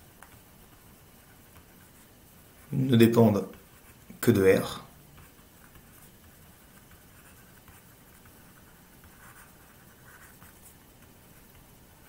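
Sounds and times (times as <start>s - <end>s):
stylus scratching on tablet: 0.0s - 12.0s.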